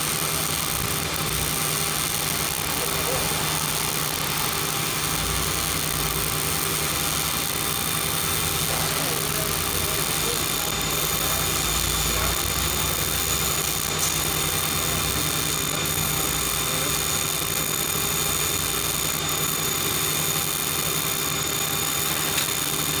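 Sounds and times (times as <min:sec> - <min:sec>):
fume extraction vacuum running: 0:00.0 - 0:23.0.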